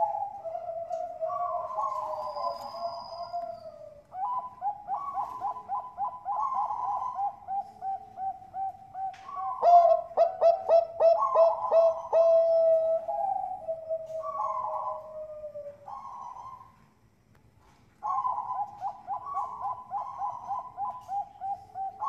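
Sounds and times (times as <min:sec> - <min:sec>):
doves cooing: 0:00.0 - 0:16.9, 0:17.6 - 0:22.0.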